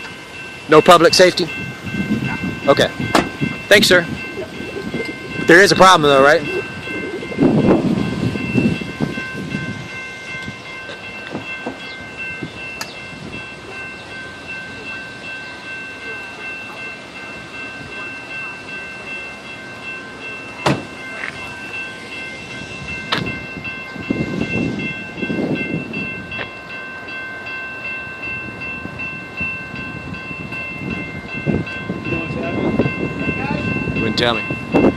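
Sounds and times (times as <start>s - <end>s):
crossing bell ringing: 0.0s - 34.9s
low train rumble: 0.0s - 34.9s.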